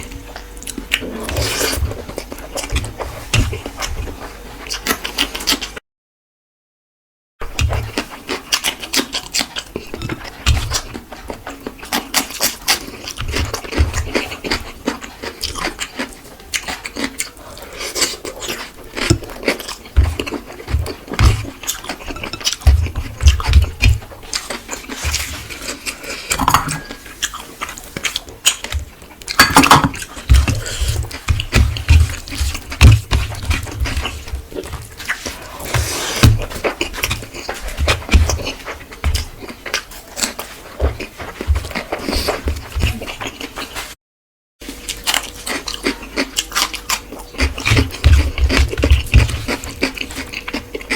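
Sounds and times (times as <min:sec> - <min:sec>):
wet chewing and lip smacking: 0:07.6 - 0:43.9, 0:44.6 - 0:50.9.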